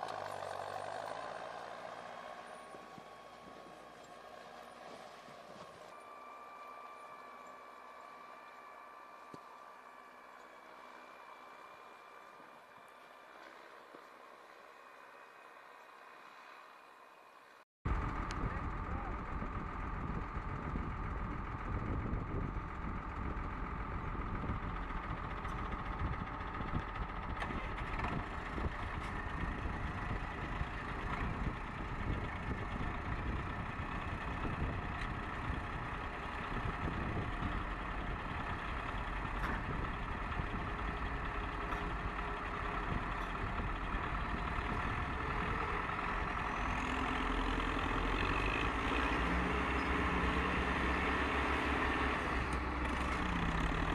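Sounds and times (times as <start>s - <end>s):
tractor diesel engines running: 0.0s - 53.9s.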